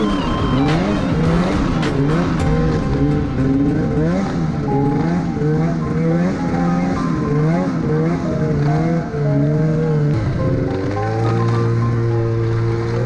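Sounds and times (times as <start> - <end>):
snowmobile engine revving: 0.0 - 13.0.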